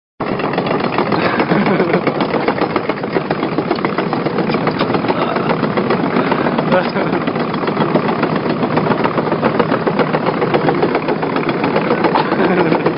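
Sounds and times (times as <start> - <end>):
excavator diesel engine running: 0.2 - 12.9.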